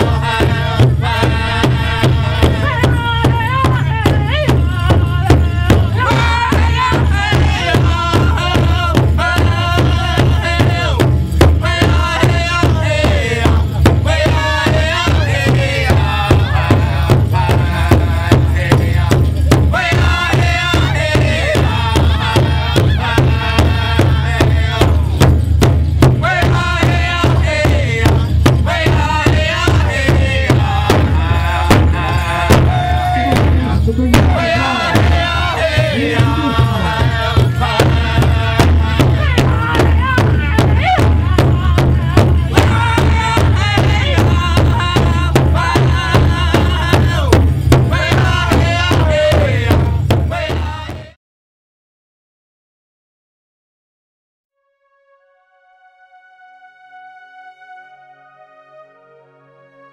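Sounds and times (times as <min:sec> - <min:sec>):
group chanting: 0:00.0 - 0:11.0, 0:11.6 - 0:25.0, 0:26.2 - 0:47.3, 0:47.9 - 0:51.1
large hide drum beat: 0:00.0 - 0:51.2.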